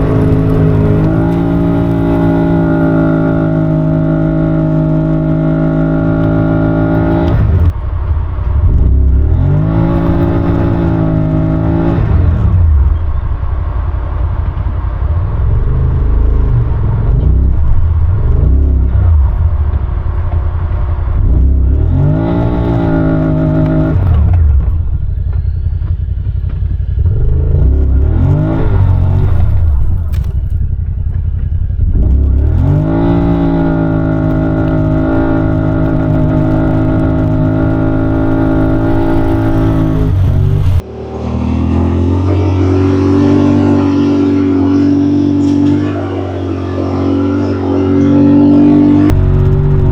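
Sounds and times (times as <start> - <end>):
engine revving under load: 0.0 - 7.8, 8.5 - 30.8, 31.4 - 49.9
steady low drone: 0.0 - 49.9.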